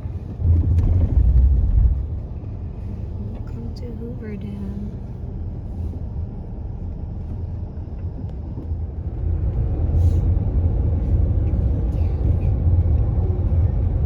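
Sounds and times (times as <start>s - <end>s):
car tyres and engine rumbling: 0.0s - 14.0s.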